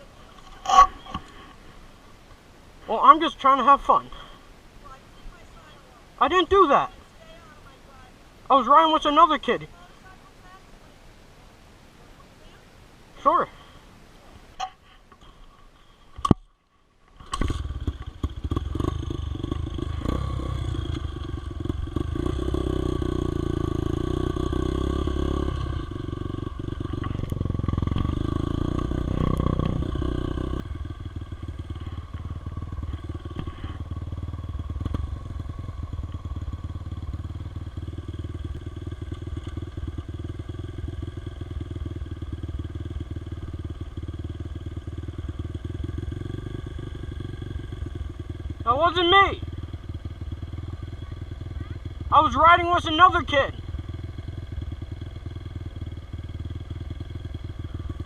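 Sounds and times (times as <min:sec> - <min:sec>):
dirt bike engine running: 0:00.0 - 0:01.8, 0:02.9 - 0:10.6, 0:17.2 - 0:58.0.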